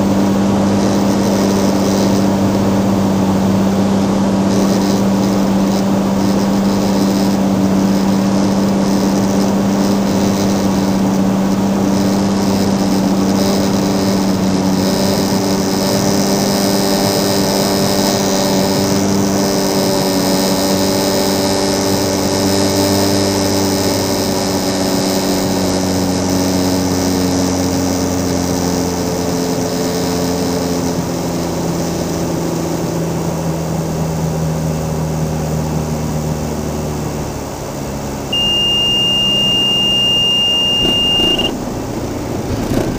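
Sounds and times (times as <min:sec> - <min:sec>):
airplane engine and propeller droning: 0:00.0 - 0:42.9.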